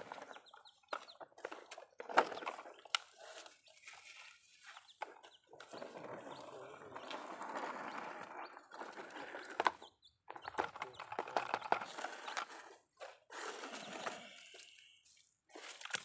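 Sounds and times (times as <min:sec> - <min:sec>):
plastic toys scraping and knocking: 0:00.0 - 0:14.9.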